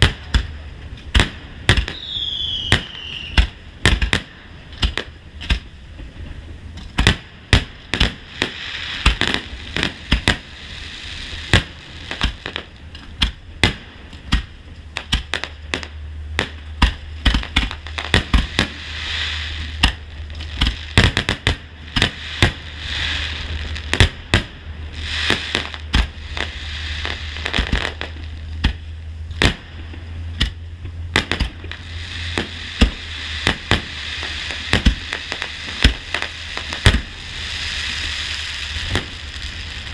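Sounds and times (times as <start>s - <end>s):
fireworks crackling: 0.0s - 39.9s
low rumble: 0.0s - 39.9s.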